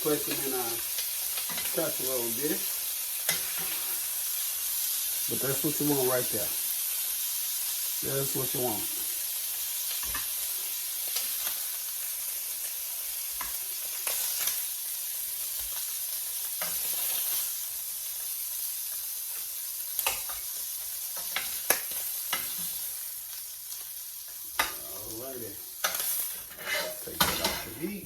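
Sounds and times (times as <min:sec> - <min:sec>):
chicken sizzling in butter: 0:00.0 - 0:28.0.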